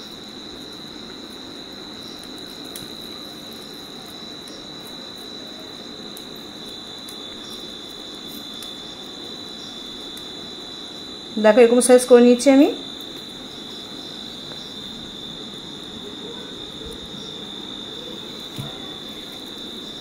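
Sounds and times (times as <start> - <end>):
high-pitched insect trill: 0.0 - 20.0.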